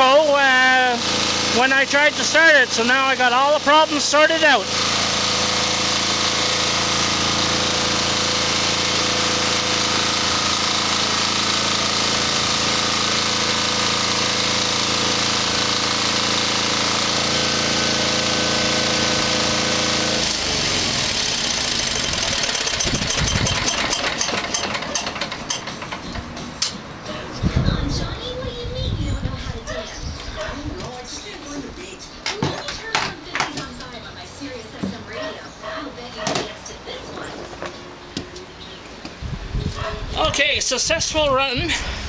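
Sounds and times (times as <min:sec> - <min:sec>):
diesel generator running: 0:00.0 - 0:42.0
rough uneven engine noise: 0:00.0 - 0:42.0.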